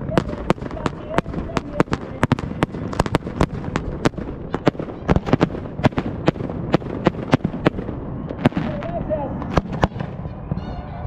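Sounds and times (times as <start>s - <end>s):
fireworks bangs: 0.0s - 10.8s
low rumble: 0.0s - 11.0s.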